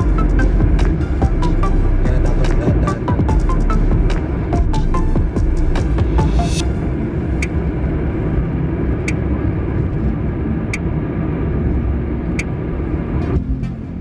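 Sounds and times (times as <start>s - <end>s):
engine and road noise in car: 0.0s - 14.0s.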